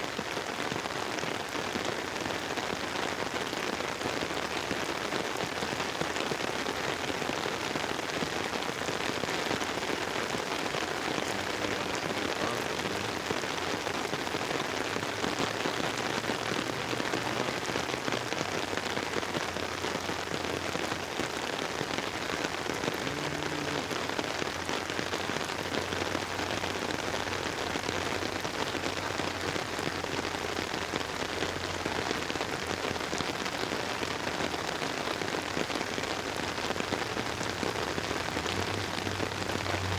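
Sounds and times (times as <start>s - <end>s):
rain drumming on an umbrella: 0.0s - 39.9s.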